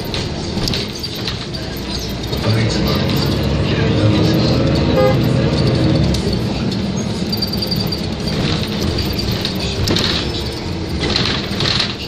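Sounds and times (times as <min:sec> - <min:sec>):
bus engine and road rumble: 0:00.0 - 0:12.0
small rattles: 0:00.0 - 0:12.0.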